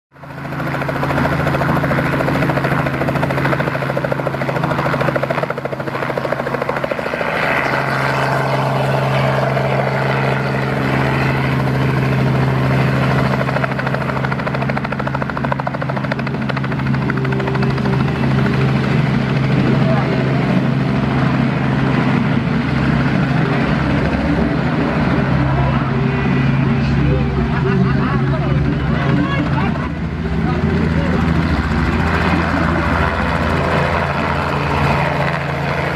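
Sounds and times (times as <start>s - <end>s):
helicopter engine hum: 0.1s - 35.9s
helicopter rotor beating: 0.1s - 35.9s.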